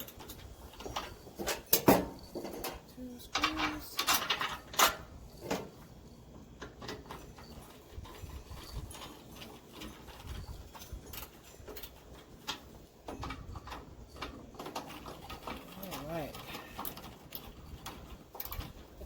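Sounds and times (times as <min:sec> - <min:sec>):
metal parts knocking and clicking: 0:00.0 - 0:05.9, 0:06.5 - 0:19.0.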